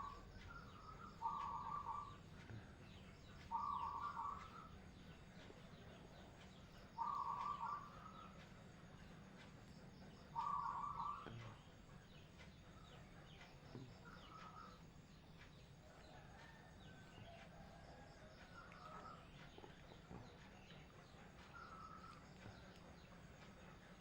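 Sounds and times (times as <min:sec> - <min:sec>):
bird calling: 0:00.0 - 0:08.6, 0:10.1 - 0:15.0, 0:17.2 - 0:23.5.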